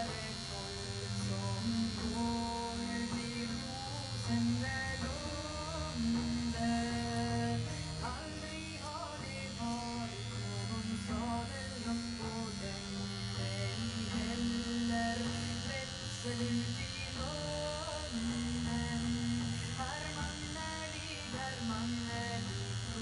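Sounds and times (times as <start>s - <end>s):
background music with singing: 0.0s - 23.0s
tattoo machine humming: 0.0s - 23.0s.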